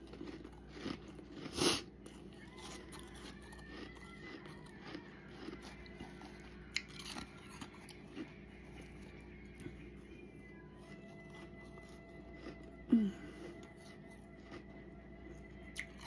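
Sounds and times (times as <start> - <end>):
person chewing crunchy frost: 0.0 - 16.0.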